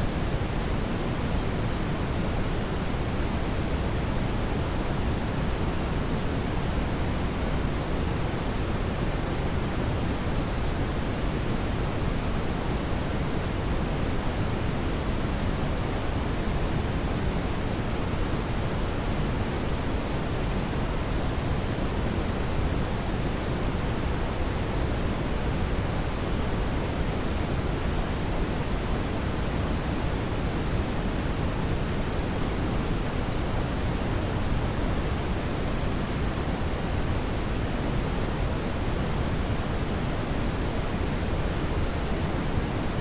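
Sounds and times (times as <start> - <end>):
brown noise hiss: 0.0 - 43.0.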